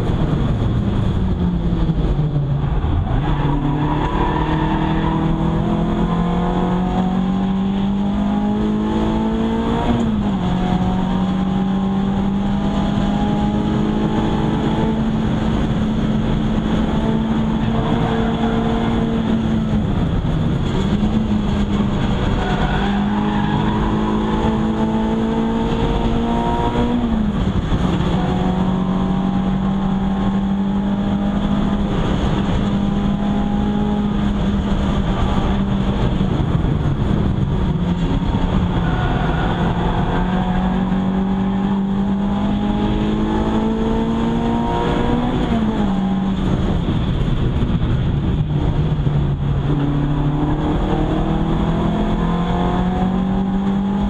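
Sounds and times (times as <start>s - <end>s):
car engine under full throttle: 0.0s - 54.0s
tyre and wind noise: 0.0s - 54.0s.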